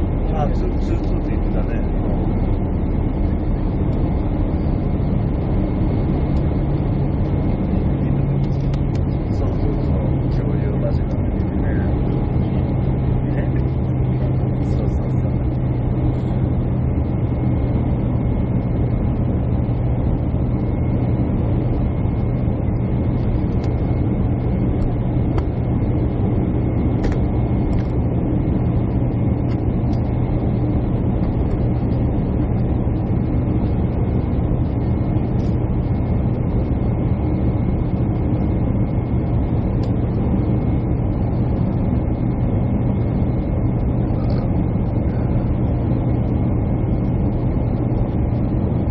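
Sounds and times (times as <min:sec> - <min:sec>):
jet engine drone: 0:00.0 - 0:48.9
low hum: 0:00.0 - 0:48.9.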